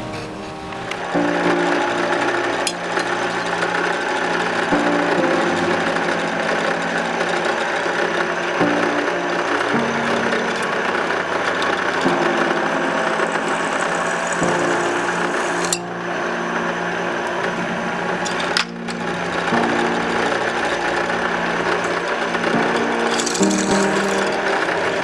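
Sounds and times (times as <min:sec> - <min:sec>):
background music: 0:00.0 - 0:25.0
small electric power tool running: 0:00.8 - 0:25.0.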